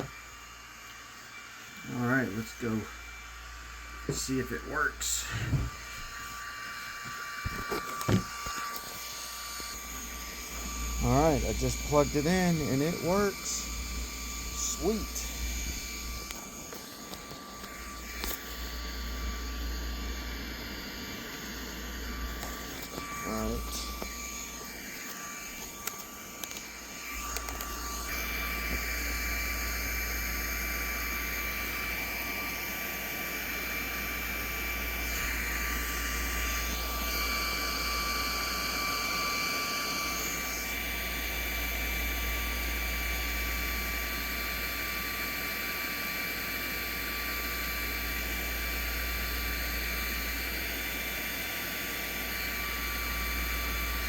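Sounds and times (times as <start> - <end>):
faint high whines: 0.0 - 46.0
steady whirring hiss: 0.0 - 46.5.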